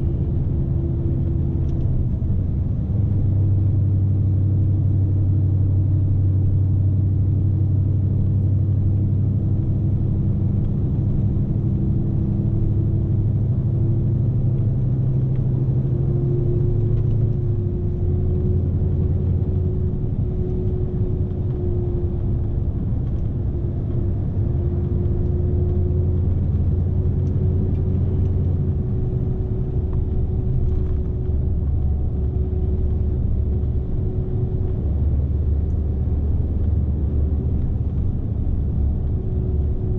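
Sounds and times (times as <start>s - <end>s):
road rumble: 0.0s - 39.9s
truck diesel engine droning: 0.0s - 39.9s.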